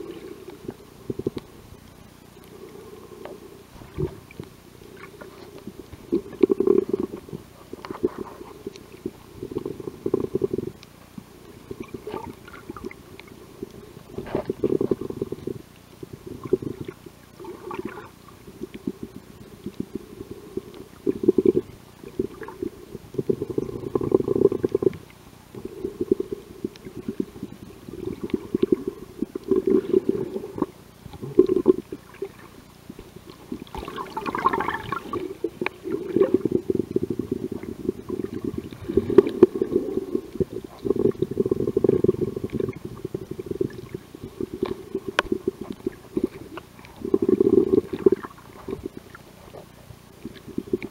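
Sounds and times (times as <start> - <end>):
underwater rumble and sloshing: 0.0 - 50.9.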